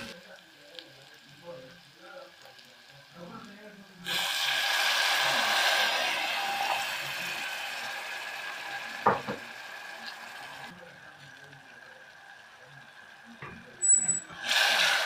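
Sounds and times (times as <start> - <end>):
water sizzling in a hot pot: 0.0 - 15.0.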